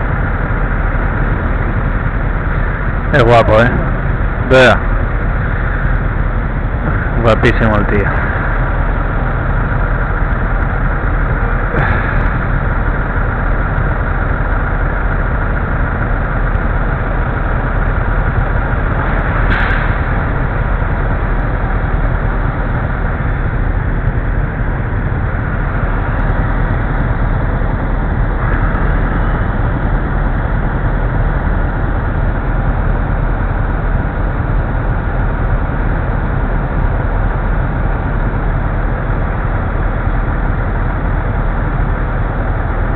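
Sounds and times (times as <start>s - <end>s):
traffic engines droning: 0.0s - 42.9s.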